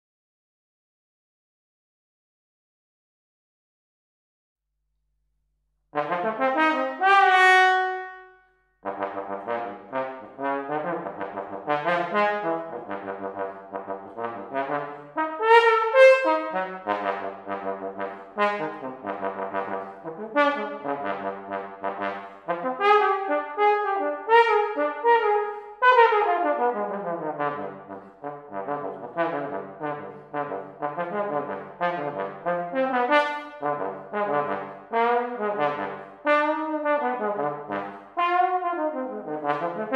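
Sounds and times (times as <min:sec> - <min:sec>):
solo trombone playing: 0:06.0 - 0:39.9.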